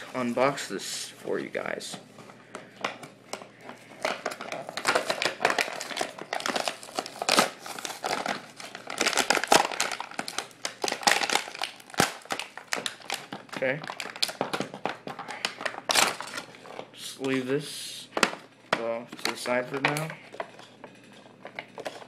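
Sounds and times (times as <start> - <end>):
plastic packaging crinkling: 1.3 - 16.9, 18.2 - 22.0.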